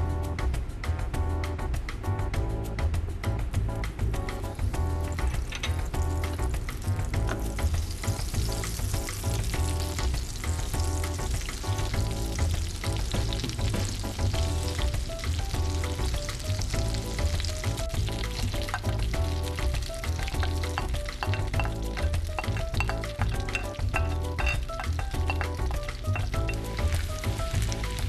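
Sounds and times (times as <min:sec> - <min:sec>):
background music: 0:00.0 - 0:28.0
butter and oil sizzling in a pan: 0:04.6 - 0:28.0.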